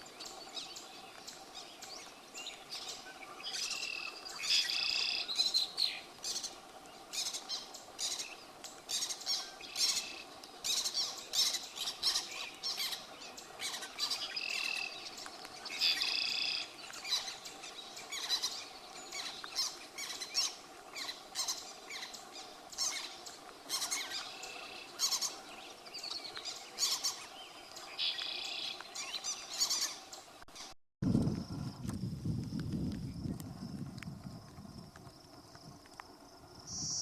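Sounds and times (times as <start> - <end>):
birds chirping: 0.0 - 30.8.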